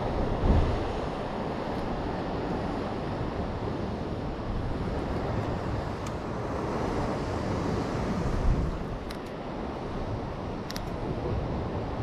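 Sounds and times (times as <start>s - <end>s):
sea waves on rocks: 0.0s - 12.0s
wind buffeting microphone: 0.0s - 12.0s.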